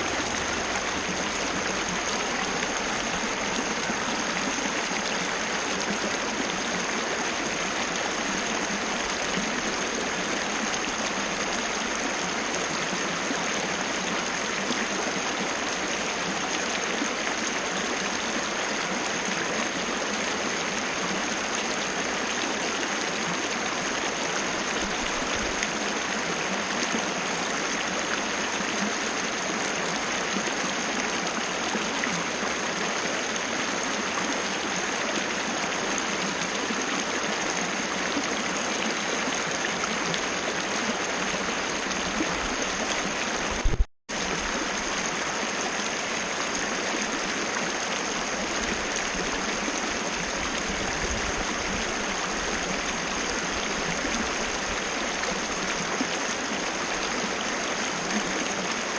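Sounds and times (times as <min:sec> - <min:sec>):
waterfall rushing and splashing: 0:00.0 - 0:58.9.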